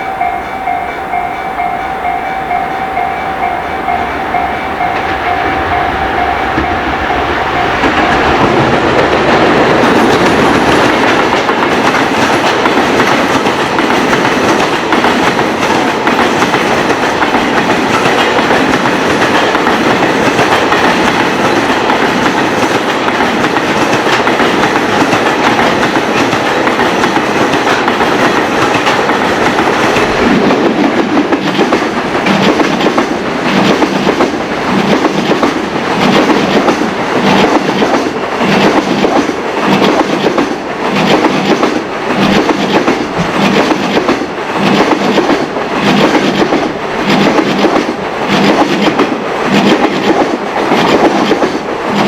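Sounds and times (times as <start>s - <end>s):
train wheels clickety-clack: 0.0s - 52.0s.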